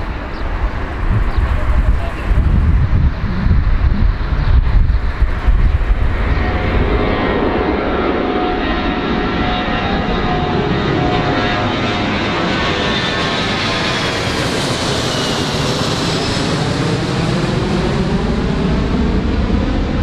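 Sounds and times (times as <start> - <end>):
airplane engines whining: 0.0 - 20.0.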